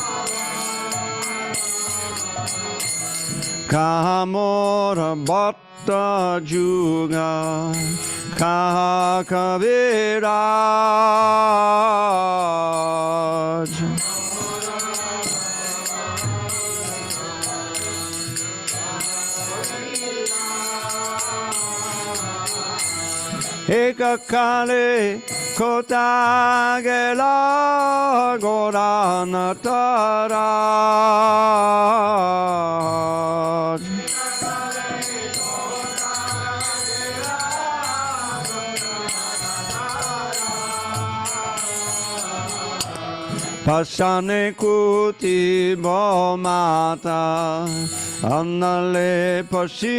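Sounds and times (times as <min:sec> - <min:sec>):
group singing devotional song: 0:00.0 - 0:49.9
hand cymbals jingling: 0:00.0 - 0:49.9.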